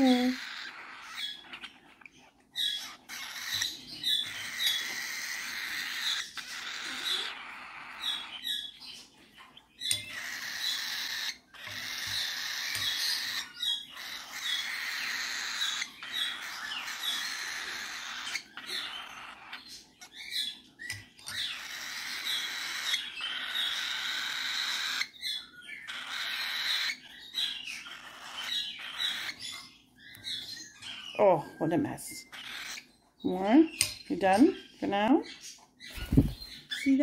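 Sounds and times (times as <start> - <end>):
baby bird begging calls: 0.0 - 8.8, 9.8 - 20.6, 21.2 - 37.0.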